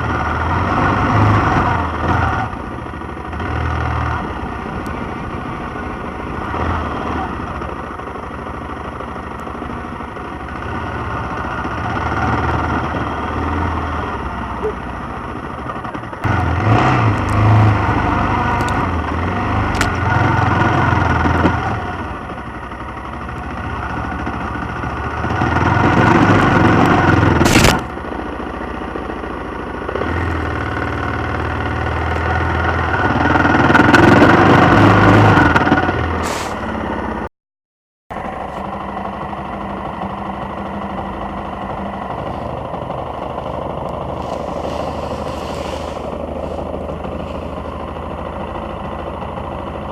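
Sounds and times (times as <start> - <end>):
motorcycle engine revving: 0.0 - 37.2, 38.5 - 49.9.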